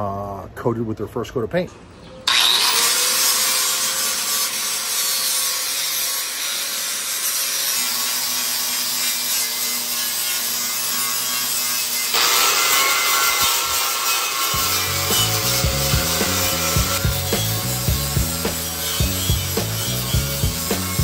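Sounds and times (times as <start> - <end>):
angle grinder grinding steel: 2.2 - 21.0.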